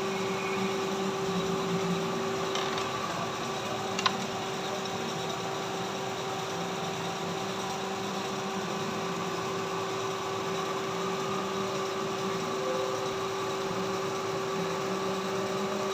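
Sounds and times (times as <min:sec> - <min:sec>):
lathe machine hum: 0:00.0 - 0:15.9.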